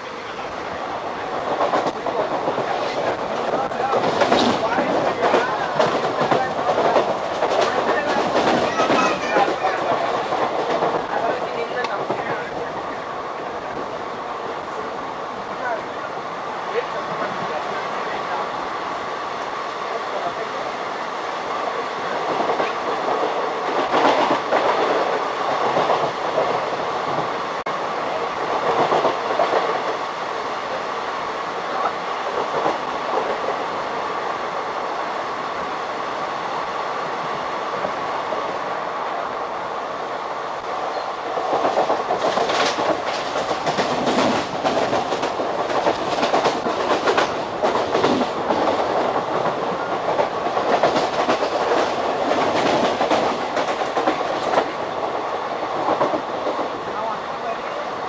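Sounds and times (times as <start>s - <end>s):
train rumble and rushing air: 0.0s - 58.0s.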